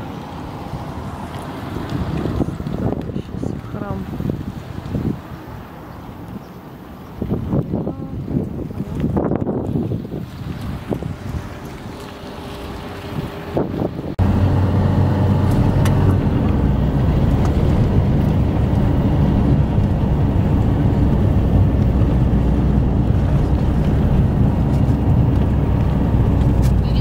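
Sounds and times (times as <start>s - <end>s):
car engine and road noise: 0.0s - 27.0s
wind on microphone: 0.0s - 27.0s.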